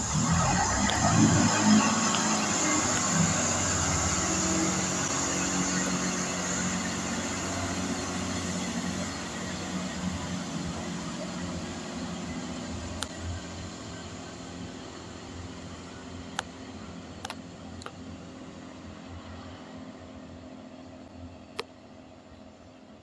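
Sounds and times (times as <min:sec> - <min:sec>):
train diesel engine hum: 0:00.0 - 0:23.0.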